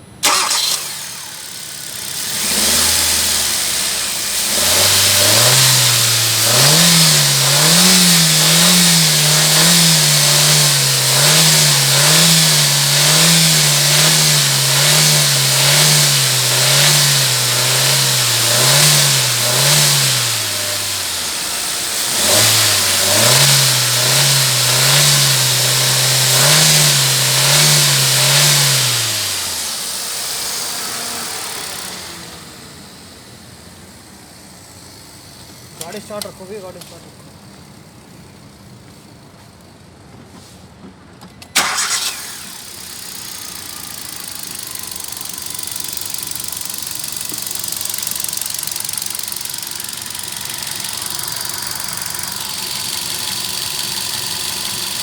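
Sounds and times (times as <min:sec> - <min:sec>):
car engine revving: 0:00.0 - 0:36.9, 0:41.6 - 0:55.0.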